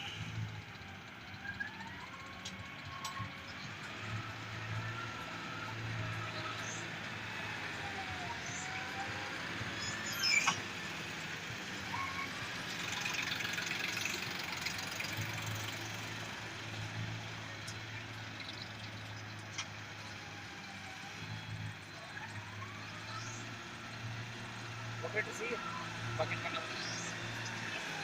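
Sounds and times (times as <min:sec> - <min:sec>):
loader engine running: 0:00.0 - 0:28.0.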